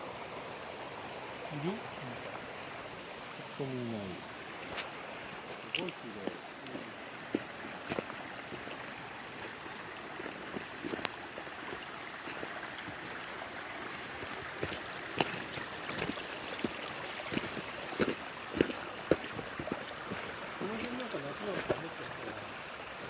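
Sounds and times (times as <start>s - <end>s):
mountain stream flowing: 0.0s - 23.0s.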